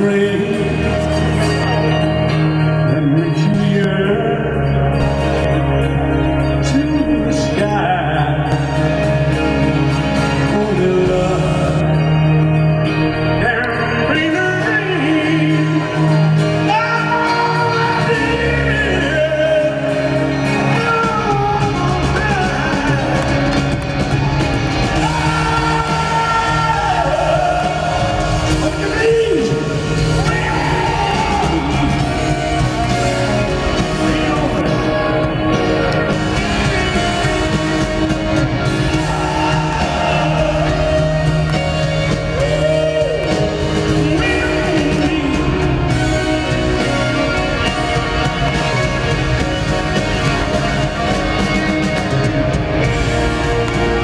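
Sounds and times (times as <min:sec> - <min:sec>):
male singer singing: 0:00.0 - 0:05.2, 0:06.4 - 0:09.1, 0:10.2 - 0:23.8, 0:24.9 - 0:48.8
live rock band playing: 0:00.0 - 0:54.0.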